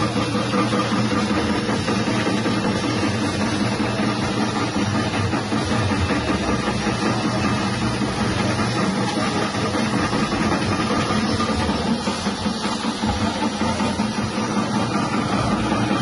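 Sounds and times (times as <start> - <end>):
electric slicing machine running: 0.0 - 16.0.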